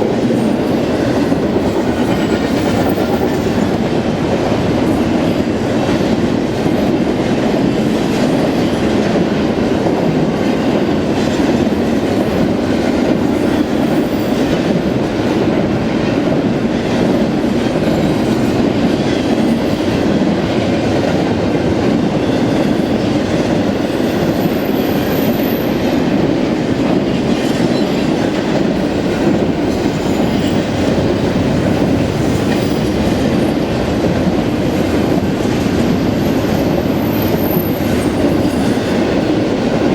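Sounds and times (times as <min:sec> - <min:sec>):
train wheels rumbling on rail: 0:00.0 - 0:39.9
wheels clickety-clack: 0:00.0 - 0:39.9.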